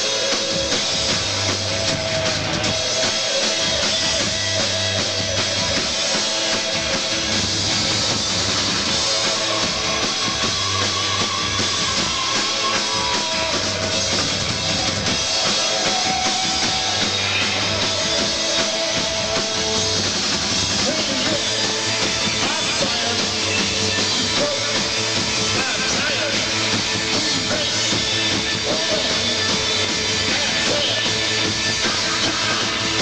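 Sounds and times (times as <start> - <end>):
drum kit: 0.0 - 33.0
live rock band: 0.0 - 33.0.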